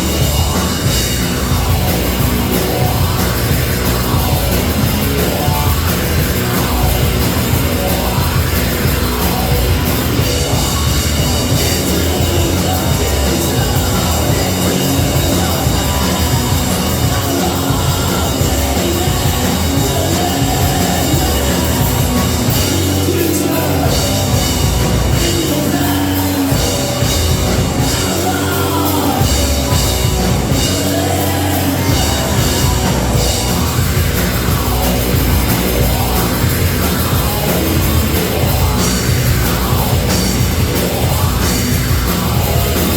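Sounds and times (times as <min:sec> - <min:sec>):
person singing: 0:00.0 - 0:42.9
rock band playing: 0:00.0 - 0:42.9.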